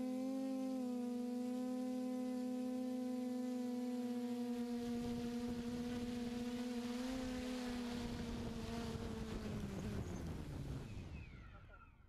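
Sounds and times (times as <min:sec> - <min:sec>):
drone motors humming: 0:00.0 - 0:12.0.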